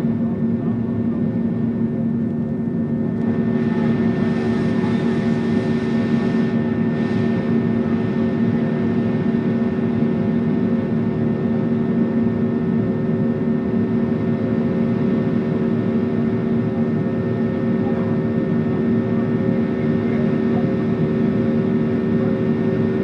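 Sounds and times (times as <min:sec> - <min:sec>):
jet engines droning in cabin: 0:00.0 - 0:23.0.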